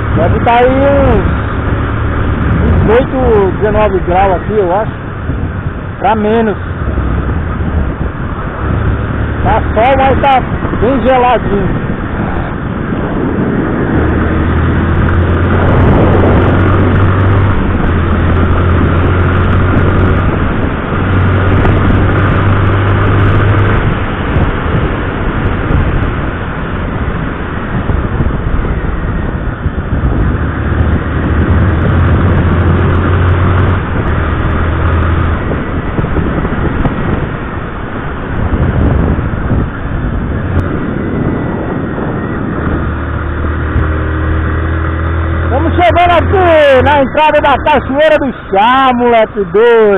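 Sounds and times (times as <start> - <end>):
motorcycle engine running: 0.0 - 49.9
wind rushing over microphone: 0.0 - 49.9.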